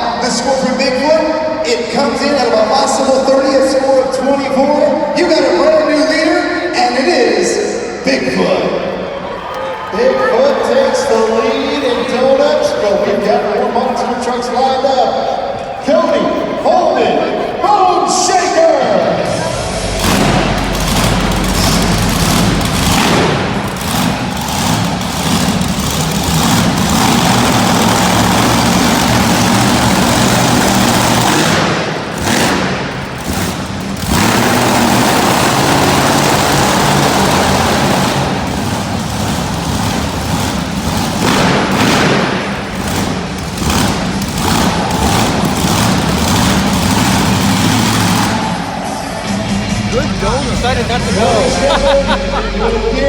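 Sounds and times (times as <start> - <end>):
monster truck engine revving: 0.0 - 8.0, 17.3 - 53.0.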